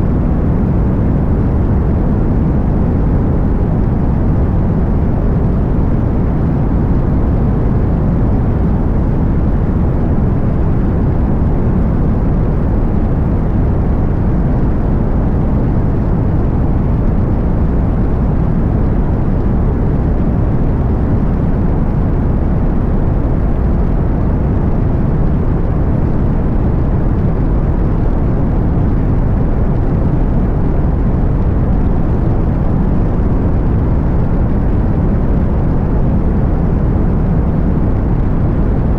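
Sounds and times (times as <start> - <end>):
plane engine and propeller droning: 0.0 - 38.9.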